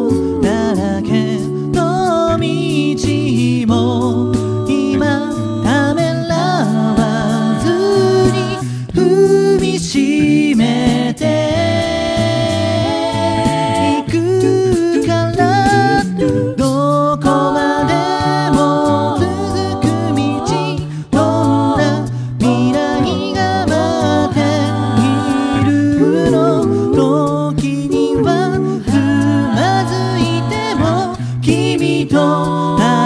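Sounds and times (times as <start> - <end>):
a cappella group singing: 0.0 - 33.0
sung bass line: 0.0 - 33.0
vocal percussion: 0.0 - 33.0.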